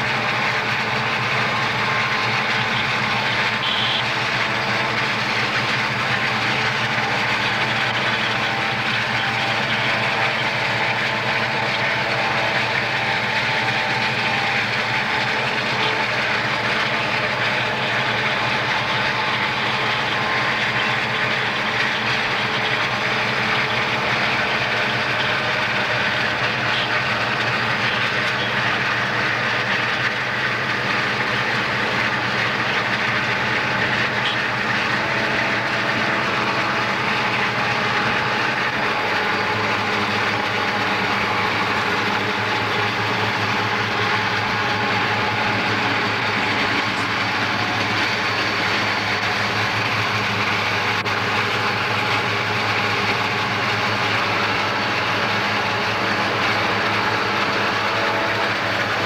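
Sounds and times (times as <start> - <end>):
diesel locomotives running: 0.0 - 59.0
road and wind noise: 0.0 - 59.0.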